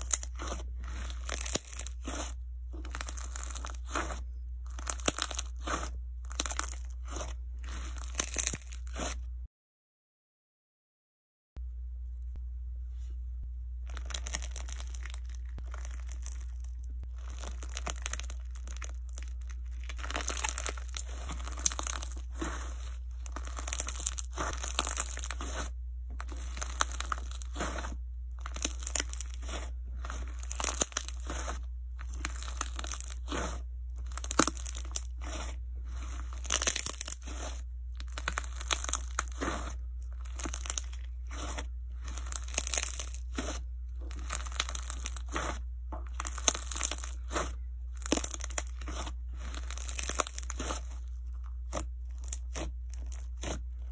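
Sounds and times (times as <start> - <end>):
slime squeezed wet crackling: 0.0 - 9.2, 13.9 - 16.6, 17.2 - 53.6
steady low hum: 0.0 - 9.5, 11.6 - 53.9.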